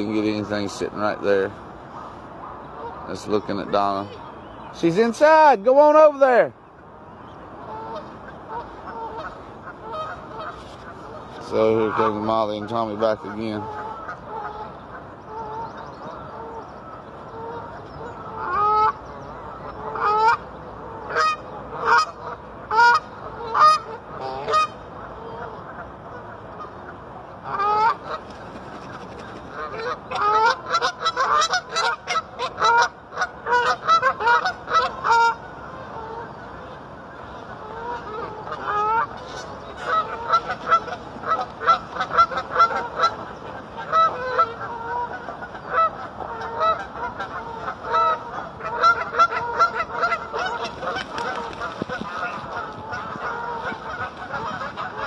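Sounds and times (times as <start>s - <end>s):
geese honking: 0.0s - 6.9s, 7.5s - 55.0s.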